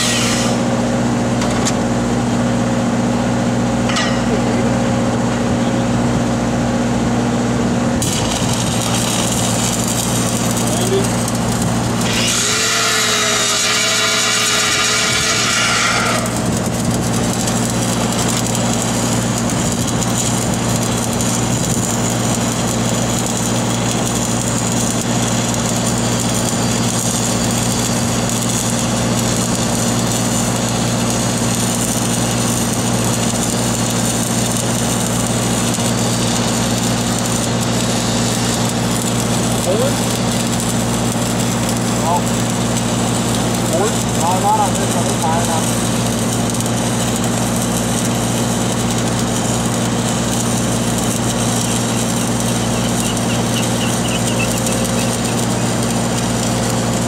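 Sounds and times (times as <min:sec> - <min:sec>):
power tool whining: 0:00.0 - 0:00.8, 0:08.0 - 0:57.0
welding arc crackling and hissing: 0:00.0 - 0:01.6, 0:07.9 - 0:57.0
welding machine engine hum: 0:00.0 - 0:57.0.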